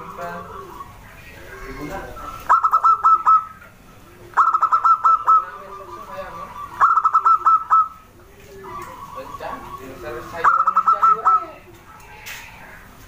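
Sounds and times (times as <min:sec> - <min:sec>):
dove cooing song: 0:00.0 - 0:12.9.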